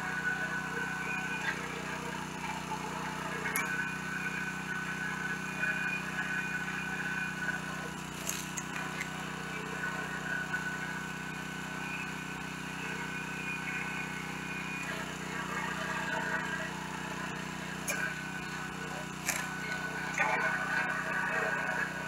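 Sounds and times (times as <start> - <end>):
log splitter whine: 0.0 - 22.0
small gasoline engine running: 0.0 - 22.0.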